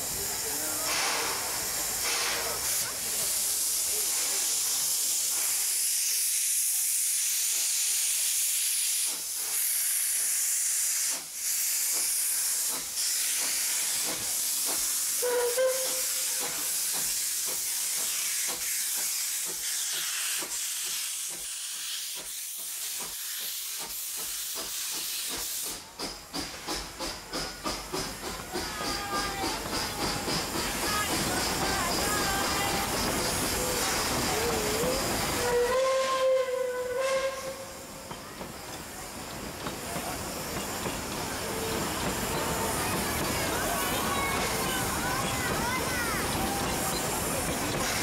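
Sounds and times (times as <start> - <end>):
steam hissing: 0.0 - 48.0
train moving regular beat: 7.2 - 36.5, 37.5 - 48.0.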